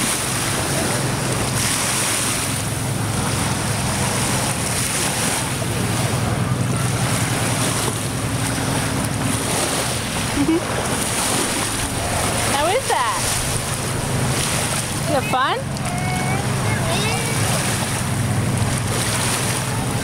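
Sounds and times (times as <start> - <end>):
motorboats humming: 0.0 - 20.0
small waves lapping: 0.0 - 20.0.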